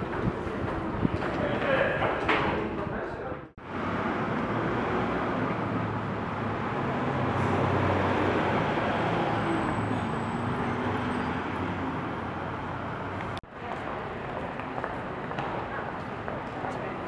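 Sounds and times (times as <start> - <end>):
street traffic noise: 0.0 - 2.7, 3.6 - 17.0.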